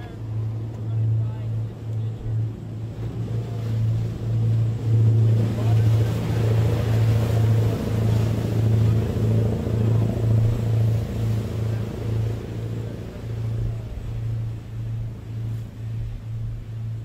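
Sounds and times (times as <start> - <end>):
boat diesel engines droning: 0.0 - 17.0
rushing water: 0.0 - 17.0.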